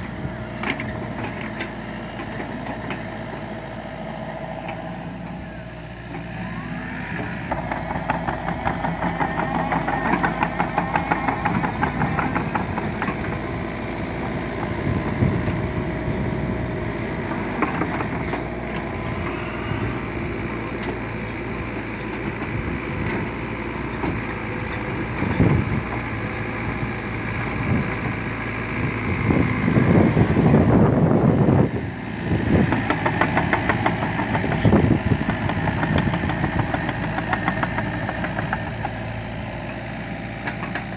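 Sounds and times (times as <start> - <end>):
excavator diesel engine pulsing: 0.0 - 40.9.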